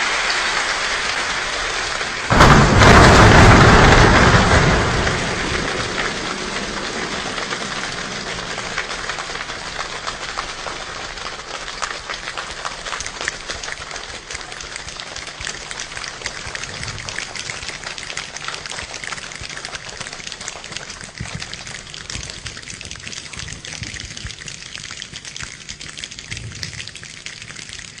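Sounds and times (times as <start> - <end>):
hands tapping like rain: 0.0 - 28.0.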